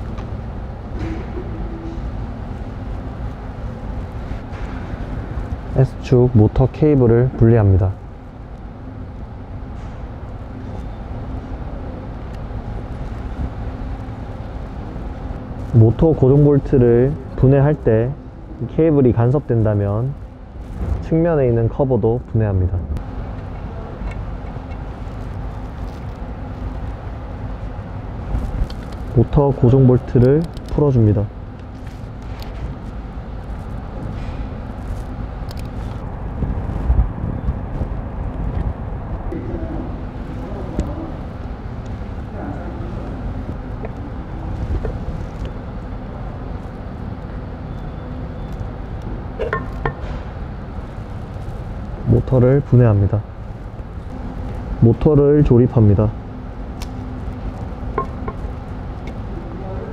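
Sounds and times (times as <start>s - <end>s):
faint steady hum: 0.0s - 59.9s
low rumble and hiss: 0.0s - 59.9s.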